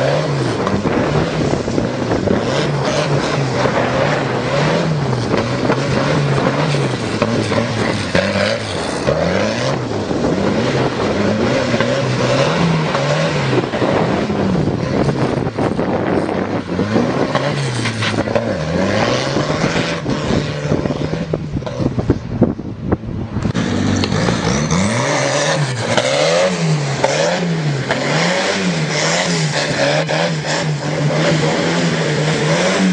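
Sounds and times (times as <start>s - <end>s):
tractor engine revving: 0.0s - 22.3s, 23.2s - 32.9s.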